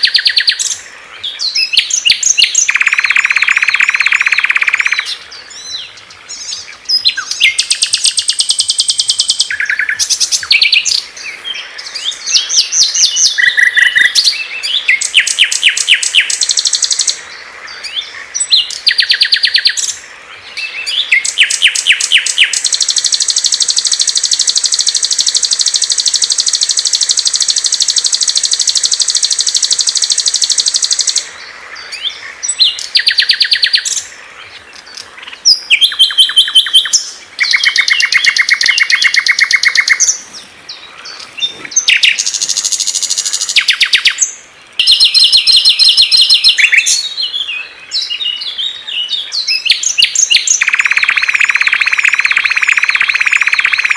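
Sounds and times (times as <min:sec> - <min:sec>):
songbirds trilling and chirping: 0:00.0 - 0:53.9.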